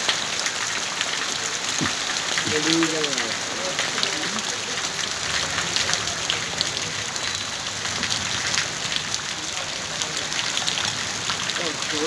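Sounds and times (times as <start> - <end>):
rain on a wet road: 0.0 - 12.0.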